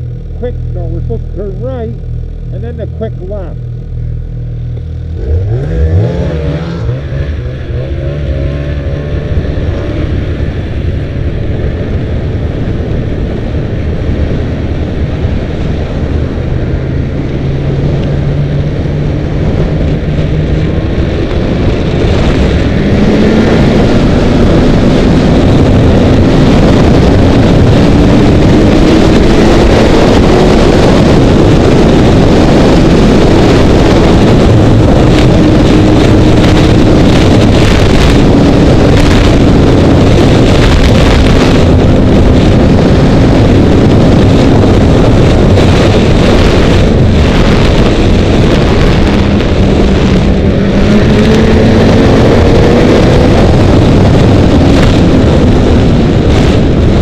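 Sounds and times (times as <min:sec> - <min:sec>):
snowmobile engine revving: 0:00.0 - 0:13.6, 0:21.8 - 0:56.9
wind rushing over microphone: 0:00.0 - 0:57.0.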